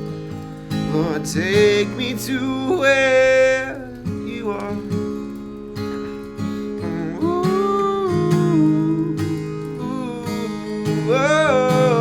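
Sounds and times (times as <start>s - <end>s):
strummed acoustic guitar: 0.0s - 12.0s
wordless sung vocal: 0.8s - 12.0s.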